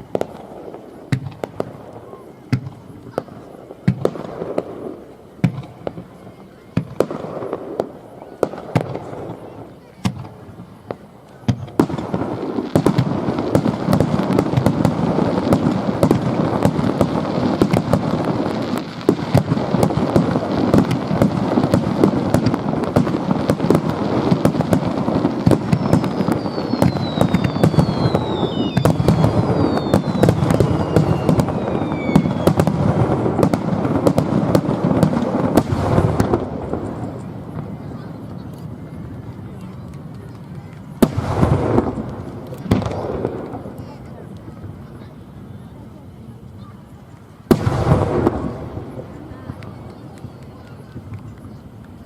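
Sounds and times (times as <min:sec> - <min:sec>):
falling firework whistles: 0:00.0 - 0:52.0
fireworks bangs and crackling: 0:00.0 - 0:52.0.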